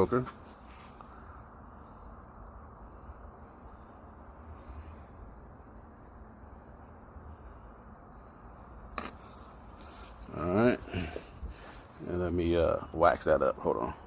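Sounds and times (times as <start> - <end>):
crickets trilling: 0.0 - 14.0
low background noise: 0.0 - 14.0.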